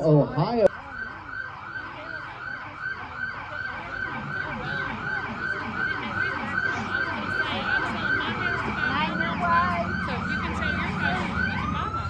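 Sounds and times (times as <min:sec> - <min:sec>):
emergency vehicle sirens yelping: 0:00.6 - 0:12.0.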